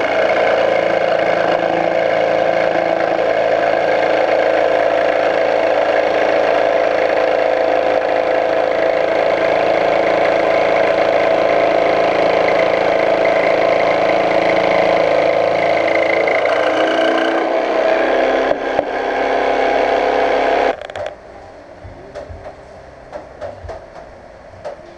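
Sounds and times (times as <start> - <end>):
jigsaw cutting wood: 0.0 - 21.1.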